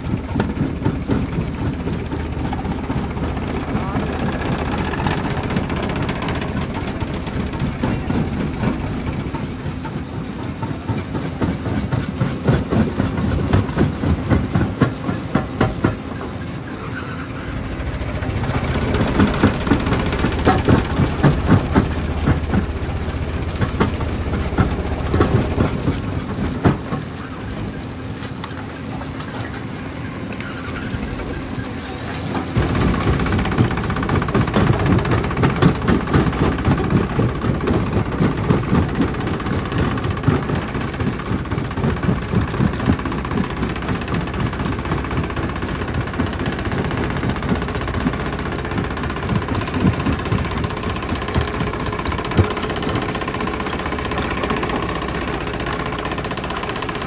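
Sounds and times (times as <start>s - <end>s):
crusher mechanical hum: 0.0s - 57.0s.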